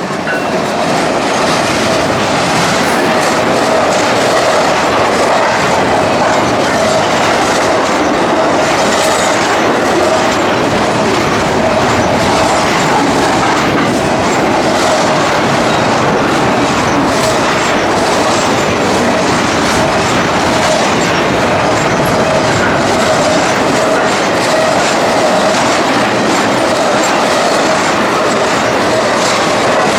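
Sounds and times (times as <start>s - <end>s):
train wheels rumbling and clattering: 0.0s - 29.9s.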